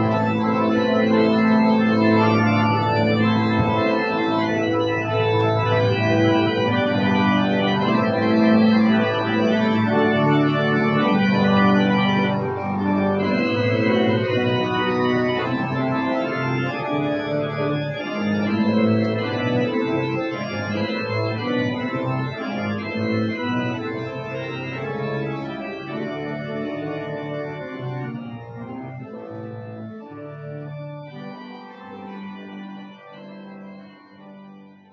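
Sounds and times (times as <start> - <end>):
church organ chords: 0.0 - 34.9.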